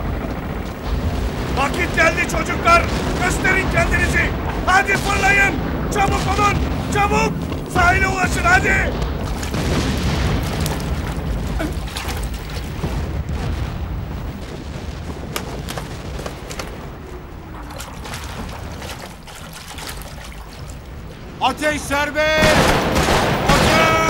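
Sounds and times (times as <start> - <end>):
rifle shots crackling: 0.0 - 19.3, 22.4 - 24.0
deep rumble of explosions: 0.0 - 24.0.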